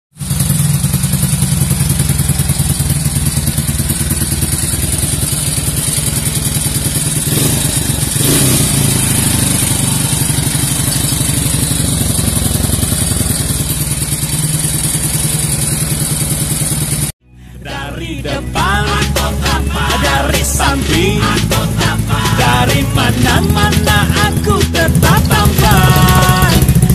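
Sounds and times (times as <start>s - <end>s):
motorcycle engine idling: 0.2s - 17.2s, 18.6s - 26.9s.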